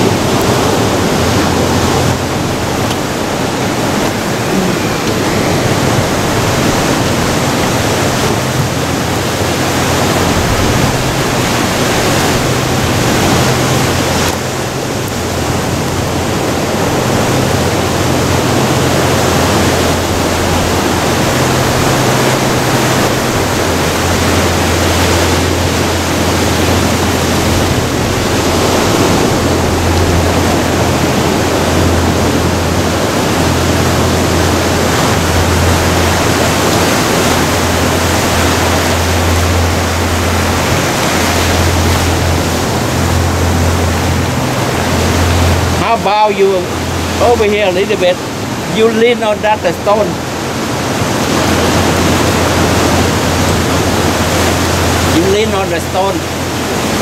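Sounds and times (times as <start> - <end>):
ocean surf breaking on rocks: 0.0 - 57.0.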